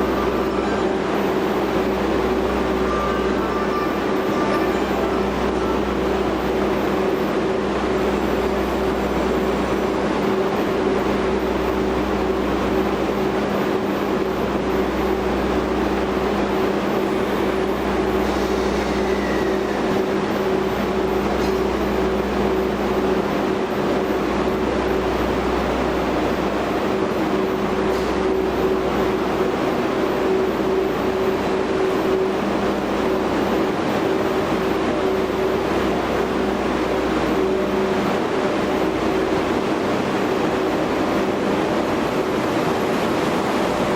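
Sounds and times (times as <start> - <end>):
train humming: 0.0 - 43.9.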